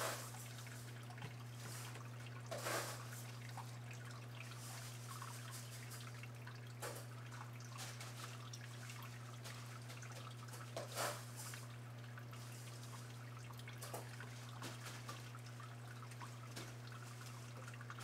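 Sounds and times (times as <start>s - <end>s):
water dripping and trickling: 0.0s - 18.0s.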